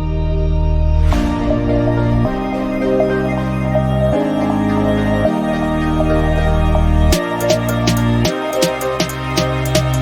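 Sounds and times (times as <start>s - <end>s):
sustained bass notes: 0.0s - 10.0s.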